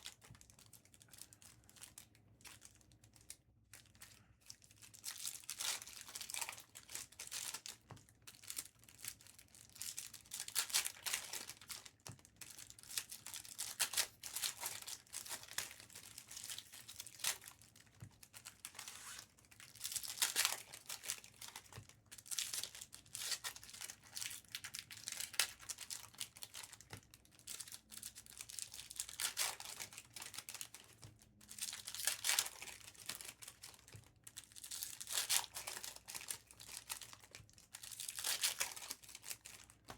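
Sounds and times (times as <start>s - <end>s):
wrappers tearing and crinkling: 0.0s - 39.9s.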